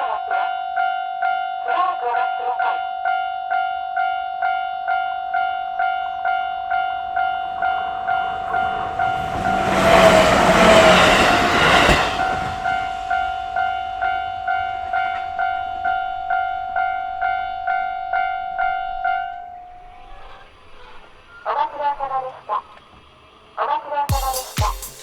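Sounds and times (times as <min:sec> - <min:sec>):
level-crossing warning bell: 0:00.0 - 0:25.0
train passing: 0:00.0 - 0:25.0.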